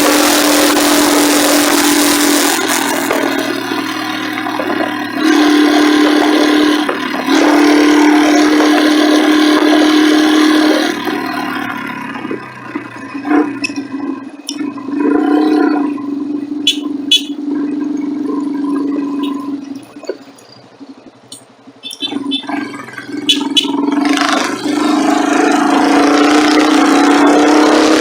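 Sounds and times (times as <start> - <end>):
motorcycle engine hum: 0.0 - 28.0.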